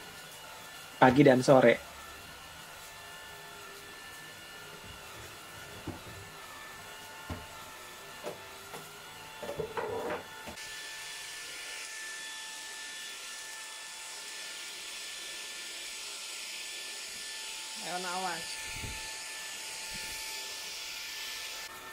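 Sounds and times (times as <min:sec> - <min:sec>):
stick vacuum motor whine: 0:00.0 - 0:21.9.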